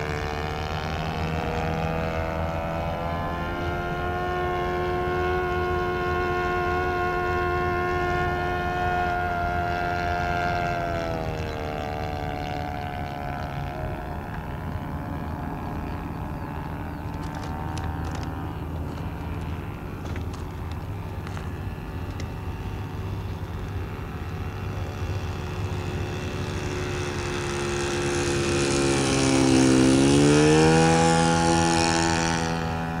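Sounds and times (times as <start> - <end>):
model airplane engine running: 0.0 - 33.0.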